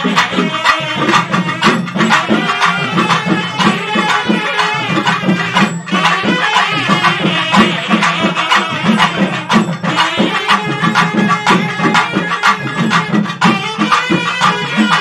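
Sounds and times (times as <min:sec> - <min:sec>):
folk music with drum beat: 0:00.0 - 0:15.0.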